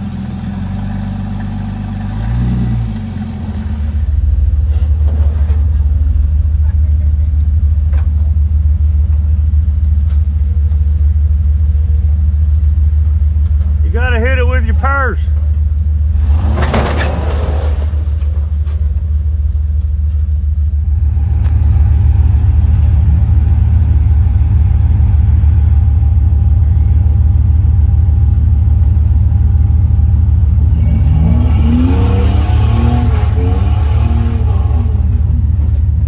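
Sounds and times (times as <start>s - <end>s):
off-road vehicle engine rumbling: 0.0s - 36.0s.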